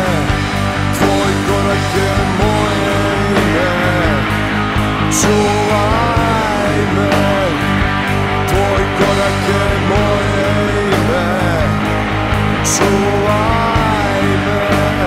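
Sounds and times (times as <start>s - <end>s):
bending guitar melody: 0.0s - 15.0s
live rock band playing: 0.0s - 15.0s.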